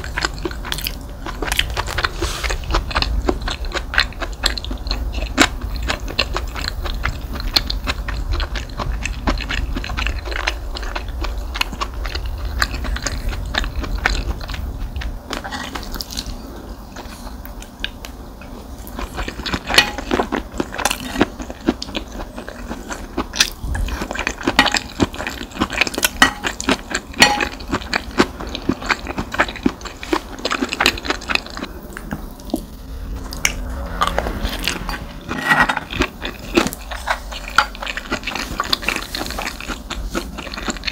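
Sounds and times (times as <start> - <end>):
chewing fried rice: 0.0 - 40.9.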